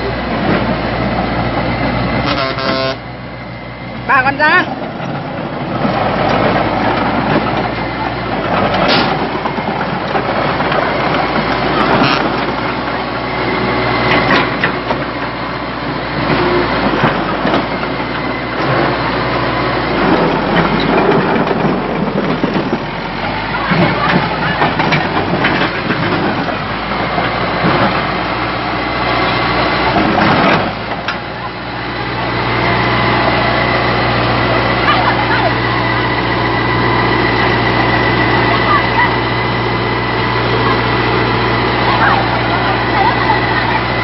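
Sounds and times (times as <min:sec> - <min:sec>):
bulldozer engine running: 0:00.0 - 0:44.0.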